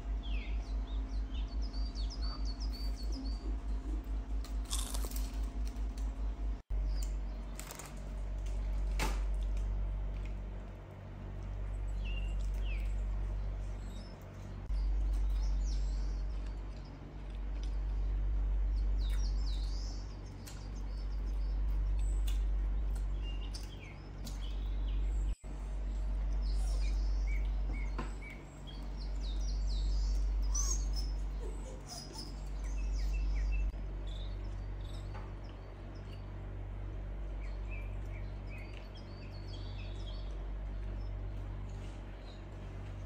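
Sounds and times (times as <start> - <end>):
low steady rumble: 0.0 - 43.0
small birds chirping: 0.0 - 43.0.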